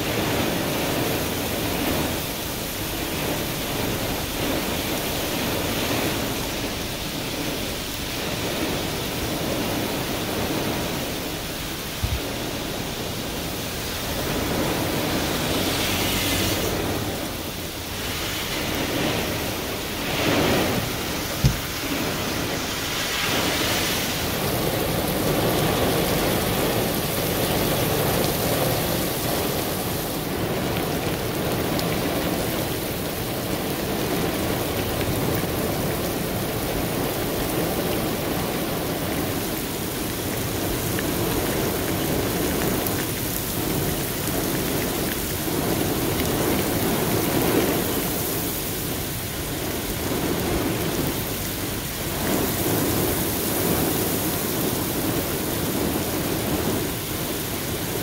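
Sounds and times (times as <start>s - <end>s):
gusty wind: 0.0s - 58.0s
heavy rain pouring: 0.0s - 58.0s
truck tyres hissing on wet road: 0.0s - 58.0s.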